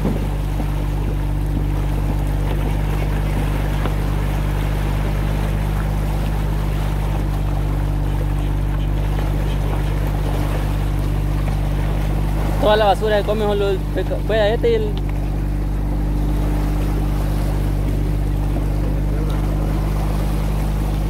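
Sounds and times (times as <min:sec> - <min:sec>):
boat motor droning: 0:00.0 - 0:21.0
sea wash: 0:00.0 - 0:21.0.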